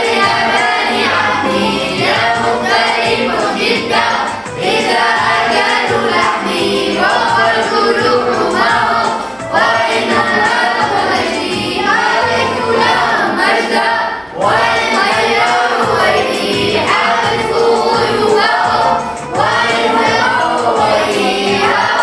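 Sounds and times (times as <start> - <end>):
melodic sung recitation: 0.0 - 22.0.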